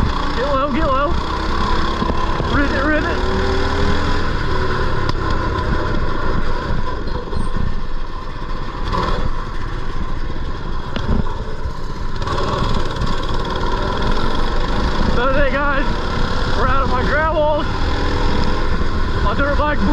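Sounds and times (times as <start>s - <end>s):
small engine running: 0.0s - 19.9s.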